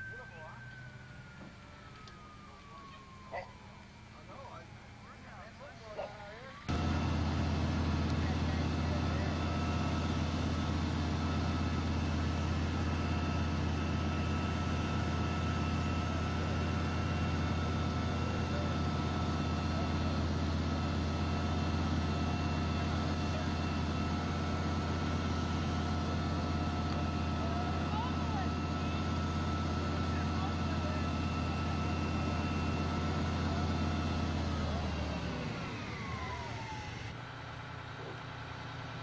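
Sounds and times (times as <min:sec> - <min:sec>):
fire engine engine drone: 0:00.0 - 0:39.0.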